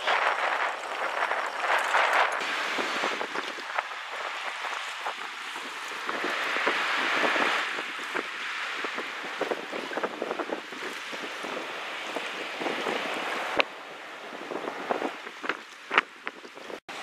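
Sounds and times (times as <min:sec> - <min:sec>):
small waves splashing: 0:00.0 - 0:17.0
wind buffeting microphone: 0:00.0 - 0:17.0.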